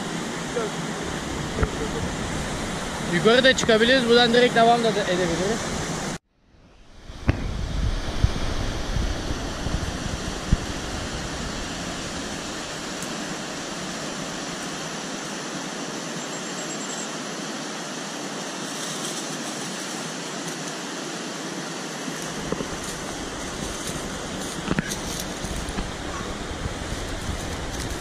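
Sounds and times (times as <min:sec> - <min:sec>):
mountain stream rushing: 0:00.0 - 0:06.2, 0:08.0 - 0:28.0.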